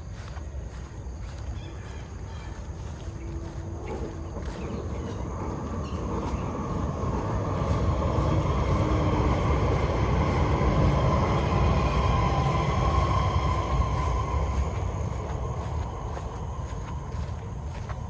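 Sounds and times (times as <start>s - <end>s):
train passing with rumble: 0.0s - 18.0s
train whine: 0.0s - 18.0s.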